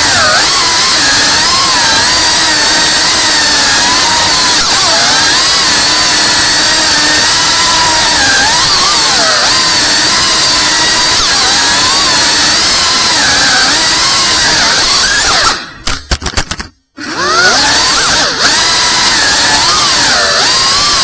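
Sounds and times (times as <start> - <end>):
drone motors whining: 0.0 - 15.9, 17.0 - 21.0.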